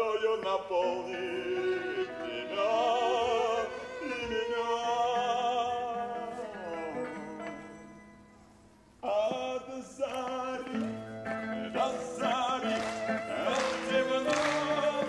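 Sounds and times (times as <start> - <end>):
live folk band music: 0.0 - 15.0.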